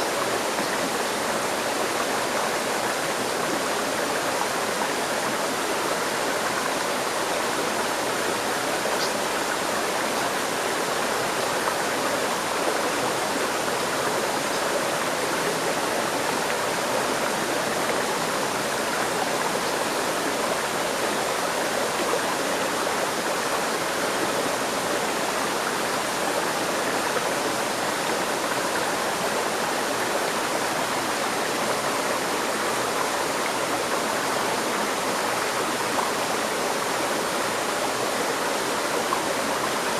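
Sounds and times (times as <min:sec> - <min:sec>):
river stream rushing and babbling: 0:00.0 - 0:39.9.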